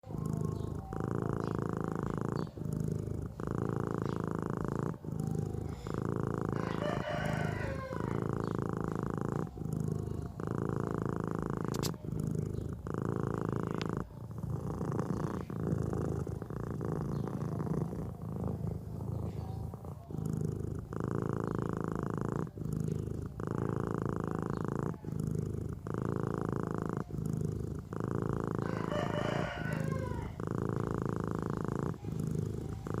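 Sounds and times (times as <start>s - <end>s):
cat snoring: 0.0s - 33.0s.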